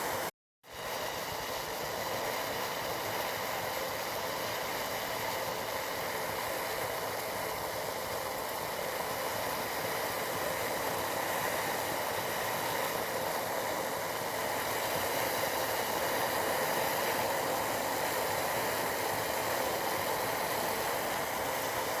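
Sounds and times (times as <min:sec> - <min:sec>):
tea boiling and bubbling: 0:00.0 - 0:22.0.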